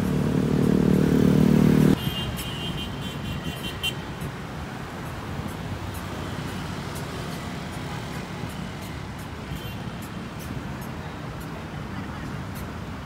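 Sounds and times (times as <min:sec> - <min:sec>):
city road traffic rumble: 0:00.0 - 0:13.0.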